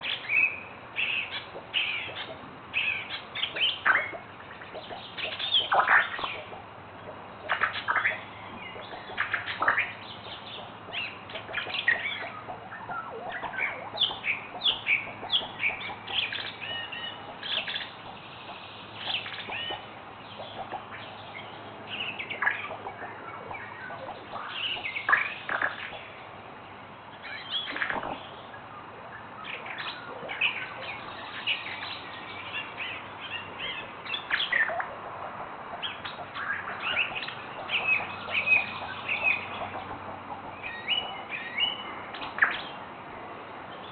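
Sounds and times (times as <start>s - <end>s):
downward-sliding bird calls: 0.0s - 26.3s, 27.2s - 42.8s
wild birds chirping: 0.0s - 43.9s.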